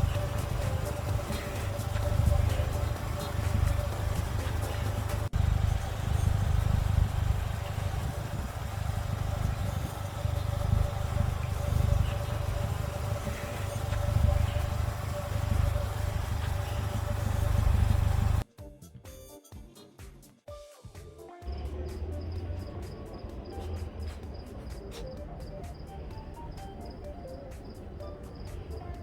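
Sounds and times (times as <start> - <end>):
road noise: 0.0 - 18.4, 21.4 - 29.0
vehicle engine rumble: 0.0 - 18.4, 21.5 - 29.0.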